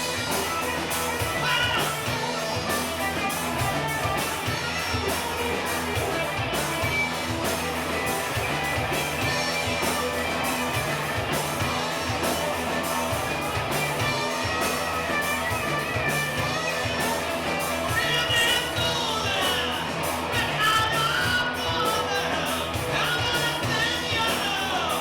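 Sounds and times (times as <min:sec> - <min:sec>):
electric guitar: 0:00.0 - 0:25.0
rock band playing: 0:00.0 - 0:25.0.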